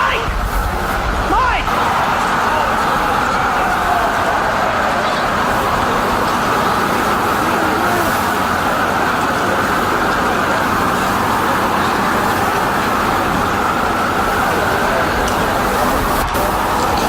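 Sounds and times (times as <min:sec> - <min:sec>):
loud street noise: 0:00.0 - 0:17.0.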